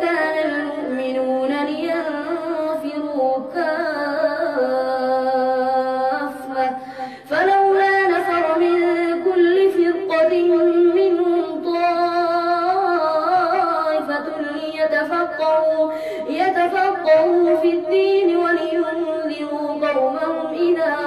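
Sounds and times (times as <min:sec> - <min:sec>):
boy chanting melodically: 0:00.0 - 0:21.0.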